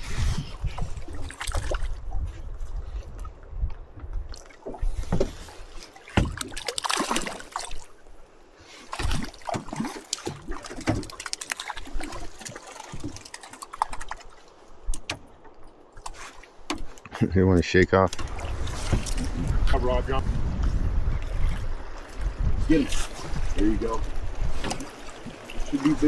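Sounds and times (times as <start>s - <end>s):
water splashing against a boat: 0.0s - 26.0s.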